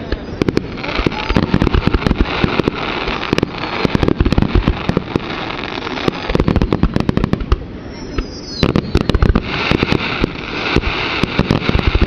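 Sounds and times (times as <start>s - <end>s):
continuous rushing noise: 0.0s - 12.0s
fireworks bangs: 0.0s - 12.0s.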